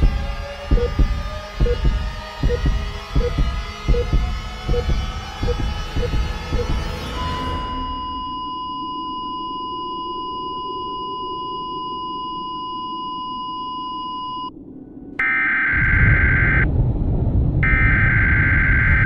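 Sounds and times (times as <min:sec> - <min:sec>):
low rumble: 0:00.0 - 0:12.1, 0:14.4 - 0:19.0
steady electronic test tone: 0:00.0 - 0:14.5, 0:15.2 - 0:16.7, 0:17.6 - 0:19.0
electronic alarm beeps: 0:00.7 - 0:14.5, 0:15.2 - 0:16.6, 0:17.6 - 0:19.0.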